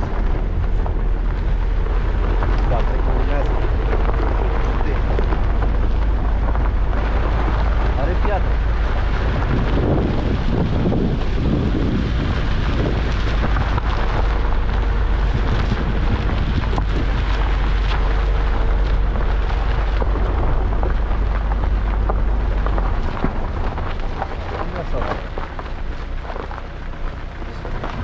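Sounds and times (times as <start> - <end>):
small stones ticking: 0.0 - 28.0
tyres on gravel: 0.0 - 28.0
wind buffeting microphone: 0.0 - 28.0.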